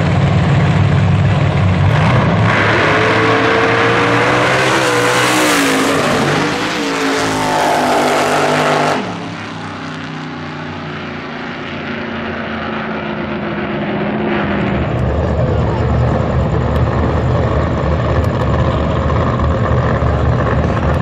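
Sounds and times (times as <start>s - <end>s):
drag racing car engine: 0.0s - 21.0s.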